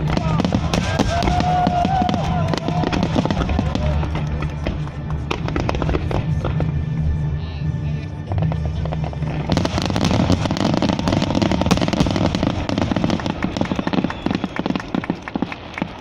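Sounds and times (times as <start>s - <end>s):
fireworks bursting and crackling: 0.0s - 7.0s, 8.2s - 16.0s
music: 0.0s - 16.0s.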